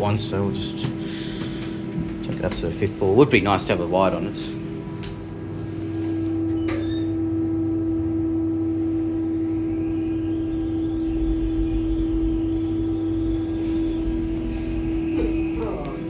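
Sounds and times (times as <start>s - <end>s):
lift car humming: 0.0s - 16.0s.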